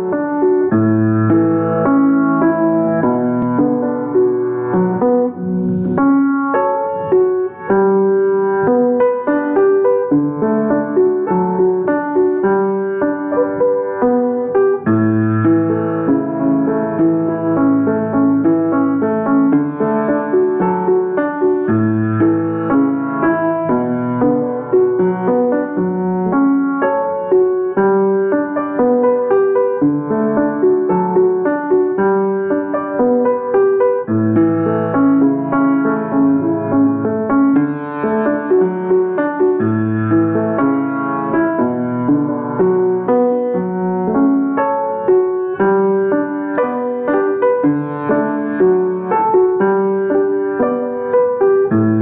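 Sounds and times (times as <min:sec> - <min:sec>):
gentle piano music: 0:00.0 - 0:52.0.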